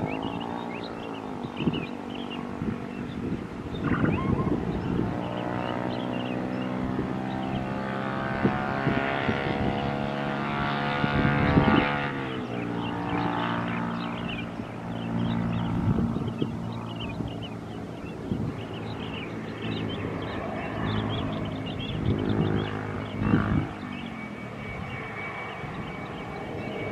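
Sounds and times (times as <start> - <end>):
jet engines whining: 0.0 - 26.9.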